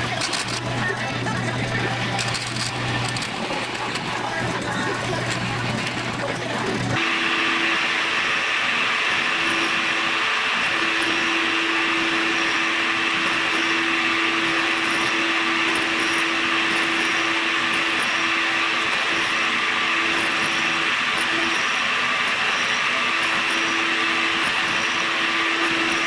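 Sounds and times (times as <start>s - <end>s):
lathe drilling: 0.0s - 26.0s
milling machine cutting metal: 0.0s - 26.0s
steady hum: 0.0s - 26.0s.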